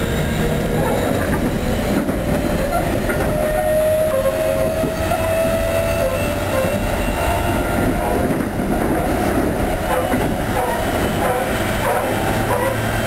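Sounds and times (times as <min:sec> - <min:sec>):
inverter and traction motors whining: 0:00.0 - 0:13.0
train wheels running on rails: 0:00.0 - 0:13.0.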